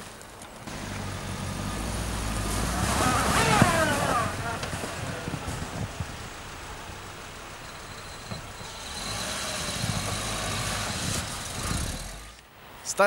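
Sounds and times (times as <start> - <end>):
car engine driving through snow: 0.0 - 12.4.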